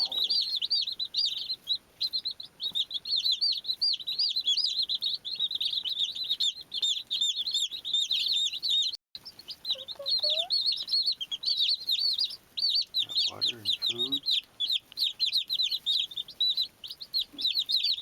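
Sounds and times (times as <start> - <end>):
baby chicks peeping: 0.0 - 18.0.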